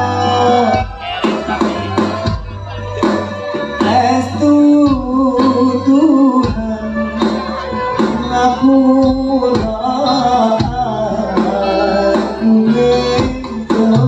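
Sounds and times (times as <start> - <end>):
drum strikes: 0.0 - 5.6, 6.4 - 12.5
live ensemble music with singing: 0.0 - 14.0.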